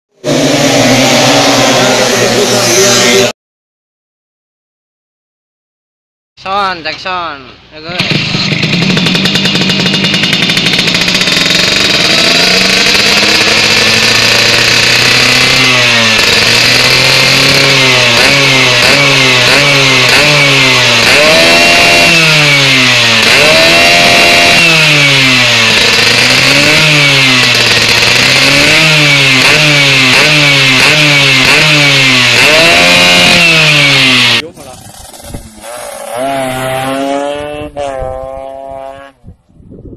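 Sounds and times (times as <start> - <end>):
scooter engine revving: 0.1 - 3.4, 7.9 - 39.2.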